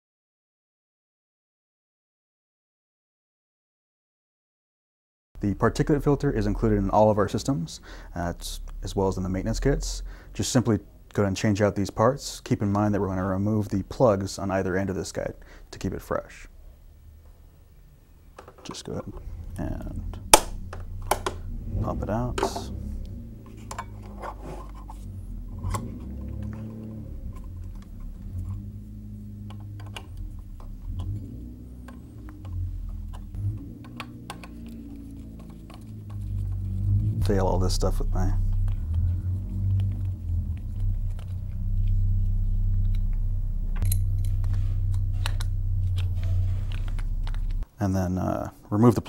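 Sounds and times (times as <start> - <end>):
low steady hum: 5.4 - 48.8.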